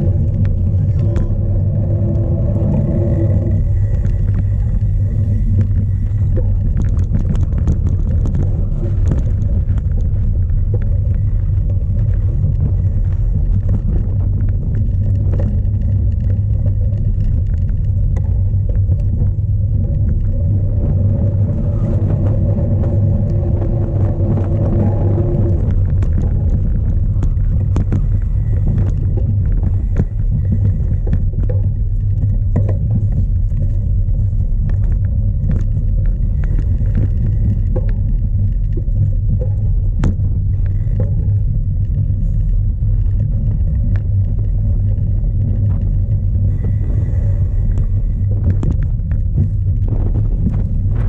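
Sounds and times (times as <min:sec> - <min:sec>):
bike clicks and rattles: 0:00.0 - 0:51.0
wind buffeting microphone: 0:00.0 - 0:51.0.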